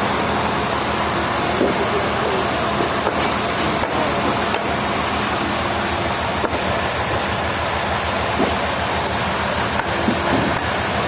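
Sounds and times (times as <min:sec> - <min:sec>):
low engine hum: 0:00.0 - 0:11.0
sawmill machinery running: 0:00.0 - 0:11.0.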